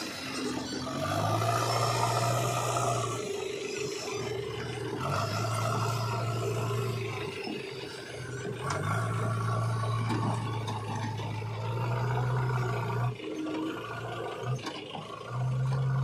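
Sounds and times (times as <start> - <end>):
diesel engine revving under load: 0.0 - 16.0.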